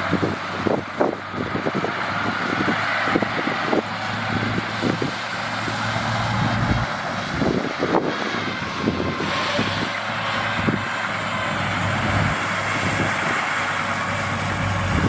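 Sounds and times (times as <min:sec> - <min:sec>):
diesel engine hum: 0:00.0 - 0:15.0.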